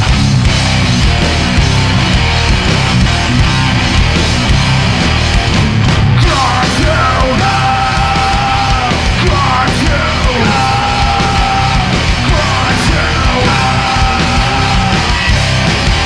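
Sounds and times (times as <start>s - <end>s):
heavy rock band playing live: 0.0s - 16.0s.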